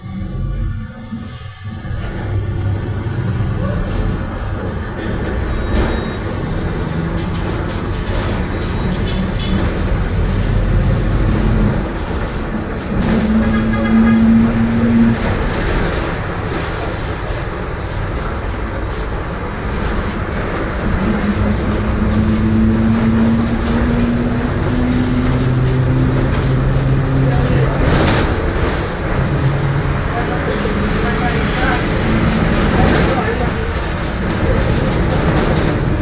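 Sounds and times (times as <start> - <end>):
bus engine low rumble: 0.0 - 36.0.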